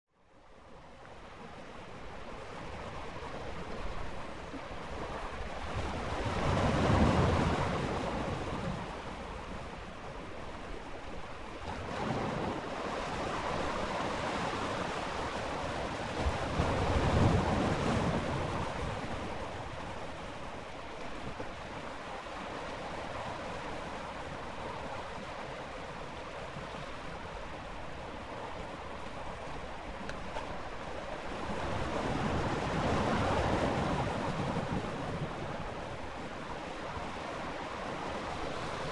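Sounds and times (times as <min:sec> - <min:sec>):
waves breaking: 0:00.6 - 0:38.9
waves washing on shore: 0:00.6 - 0:38.9.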